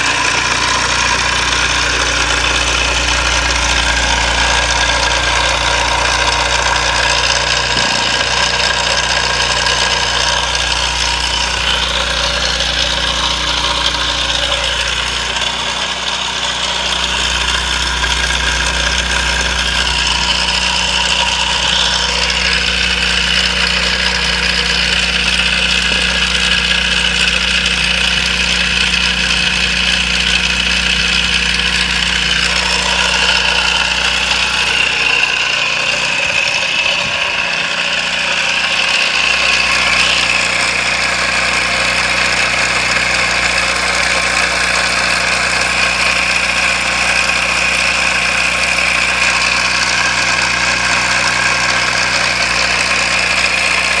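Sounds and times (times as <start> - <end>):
small engine idling: 0.0 - 54.0.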